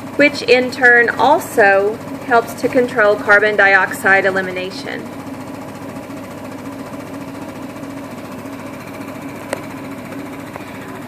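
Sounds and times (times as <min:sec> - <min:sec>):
ventilator pulsing hum: 0:00.0 - 0:11.0.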